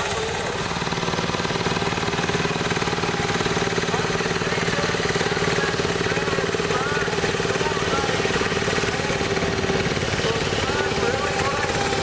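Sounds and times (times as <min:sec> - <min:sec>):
small tractor engine running: 0:00.0 - 0:12.0.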